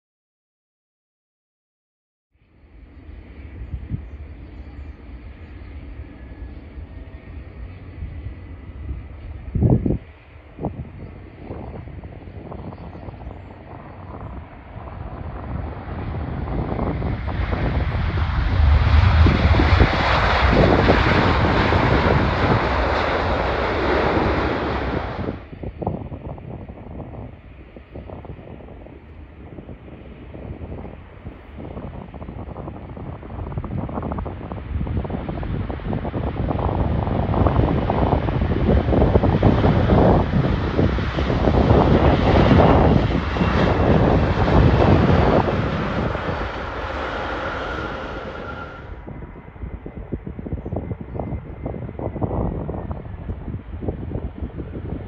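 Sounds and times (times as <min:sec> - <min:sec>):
jet engines at takeoff thrust: 0:02.4 - 0:55.0
wind buffeting microphone: 0:02.9 - 0:55.0.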